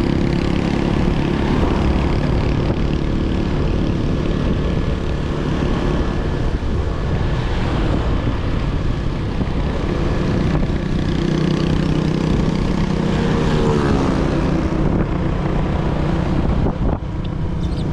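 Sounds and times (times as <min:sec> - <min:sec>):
motorcycle engine running: 0:00.0 - 0:07.3, 0:08.0 - 0:17.9.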